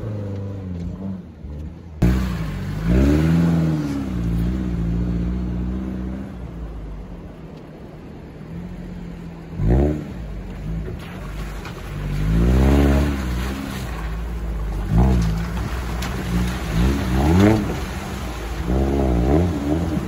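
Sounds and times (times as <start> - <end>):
jeep engine revving: 0.0 - 20.0.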